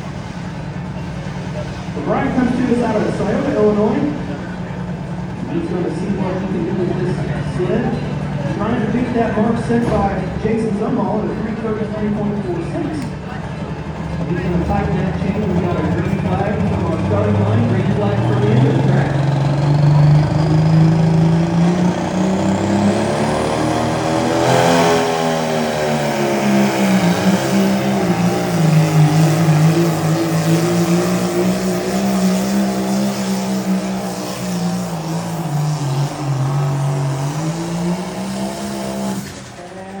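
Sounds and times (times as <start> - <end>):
tractor engine under load: 0.0 - 40.0.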